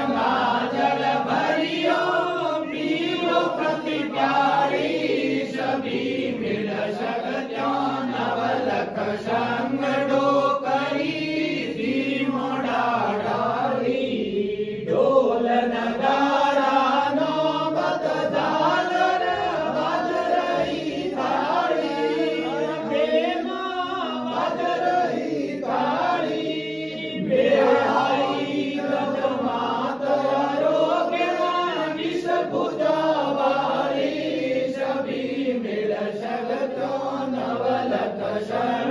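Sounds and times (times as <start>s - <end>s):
men singing a hymn together: 0.0s - 38.9s.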